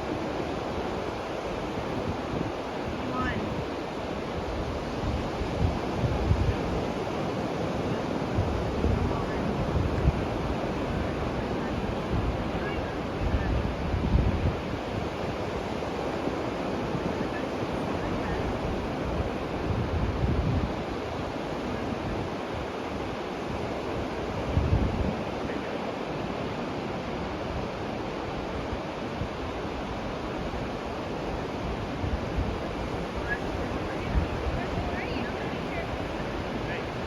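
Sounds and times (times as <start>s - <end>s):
ocean surf washing on beach: 0.0s - 37.0s
wind buffeting microphone: 0.0s - 37.0s.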